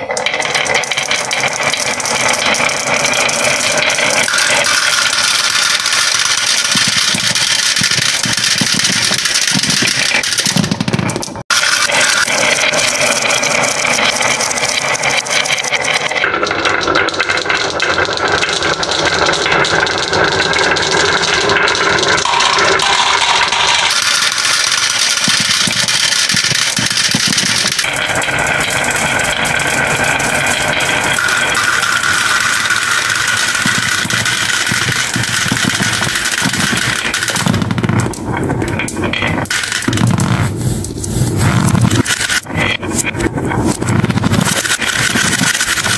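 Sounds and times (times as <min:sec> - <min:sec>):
glass marbles rattling on wooden track: 0:00.0 - 0:45.9
marbles tumbling rumble: 0:00.0 - 0:45.9.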